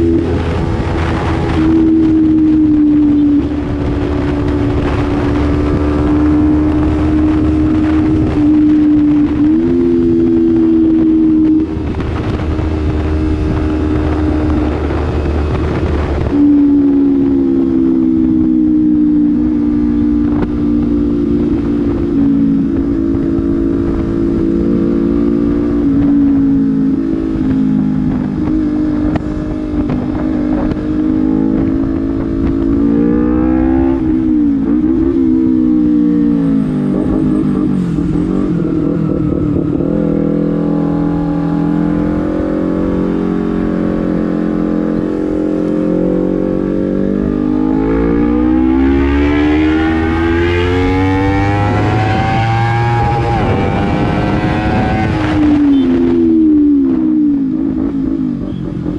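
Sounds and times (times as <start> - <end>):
motorcycle exhaust: 0.0 - 58.9.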